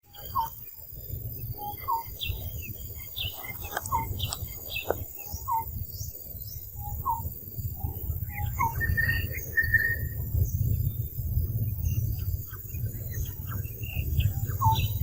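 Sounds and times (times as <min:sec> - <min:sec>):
birds chirping: 0:00.0 - 0:15.0
low steady rumble: 0:00.6 - 0:15.0.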